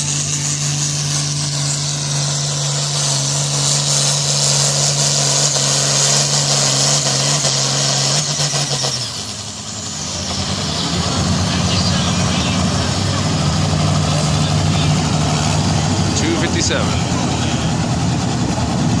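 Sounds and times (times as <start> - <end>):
tractor engine roaring: 0.0 - 19.0.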